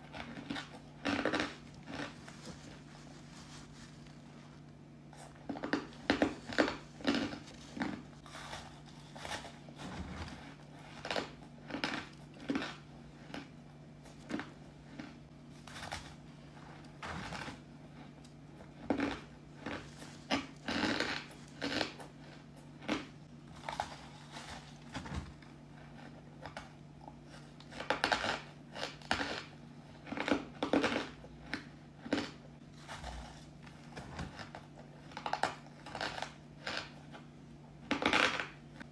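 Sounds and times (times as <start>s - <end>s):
person chewing ice: 0.0s - 3.2s, 4.2s - 38.9s.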